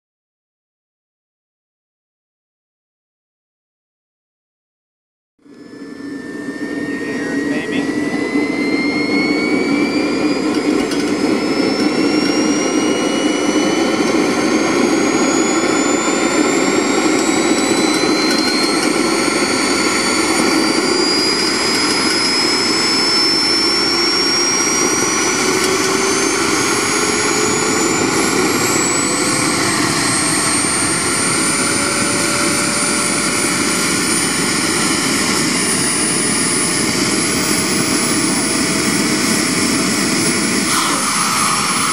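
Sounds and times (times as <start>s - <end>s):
model jet engine spooling up: 5.5s - 41.9s.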